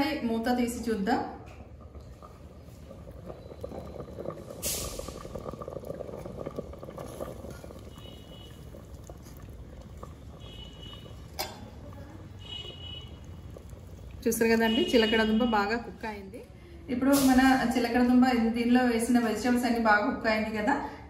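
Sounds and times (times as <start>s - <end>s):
stew bubbling: 0.0s - 19.5s.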